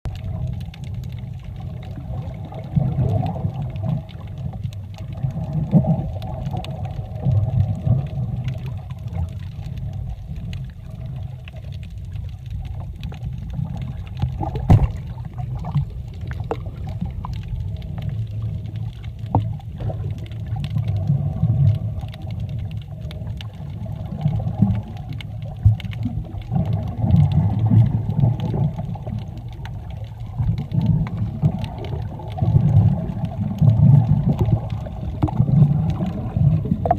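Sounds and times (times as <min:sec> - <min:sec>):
muffled rumble of water underwater: 0:00.0 - 0:36.9
sharp clicks and pops: 0:02.7 - 0:36.9.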